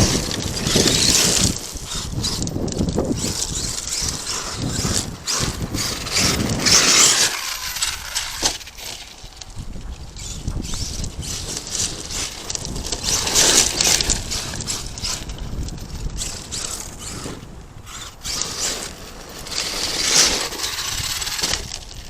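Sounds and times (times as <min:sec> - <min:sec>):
toy truck drivetrain whirring: 0:00.0 - 0:22.0
tyres scattering gravel: 0:00.0 - 0:22.0.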